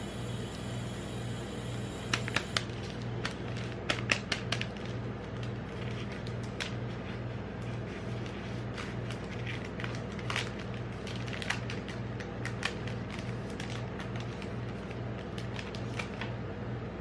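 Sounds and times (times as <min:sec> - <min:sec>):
steady low hum: 0:00.0 - 0:17.0
wrapper crinkling and tearing: 0:02.2 - 0:16.3.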